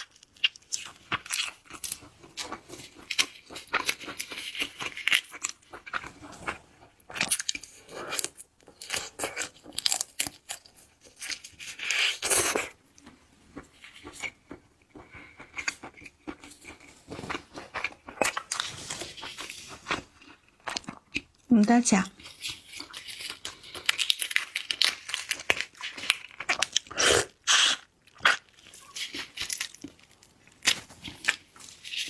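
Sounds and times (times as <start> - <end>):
shellfish shells cracking and chewing: 0.0 - 32.0.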